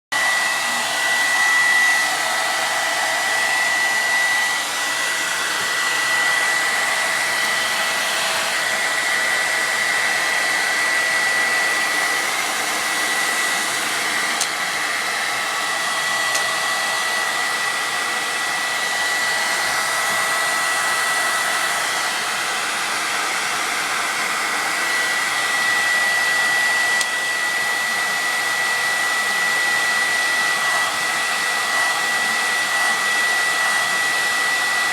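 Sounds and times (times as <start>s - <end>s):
hair dryer running: 0.0s - 34.9s.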